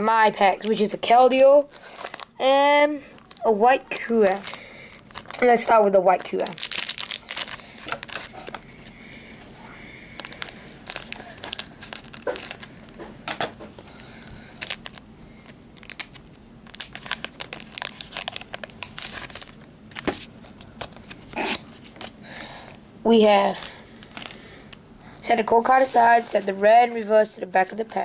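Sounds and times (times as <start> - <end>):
foil wrapper crinkling: 0.6 - 24.7.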